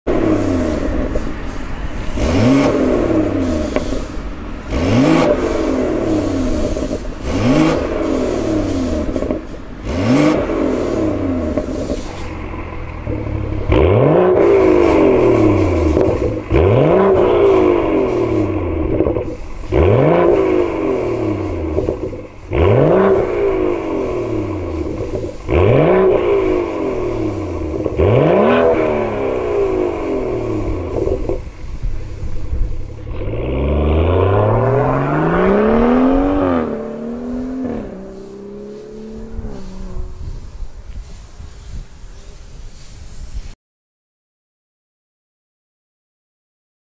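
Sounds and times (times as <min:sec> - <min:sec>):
car engine revving in blips: 0:00.1 - 0:41.1.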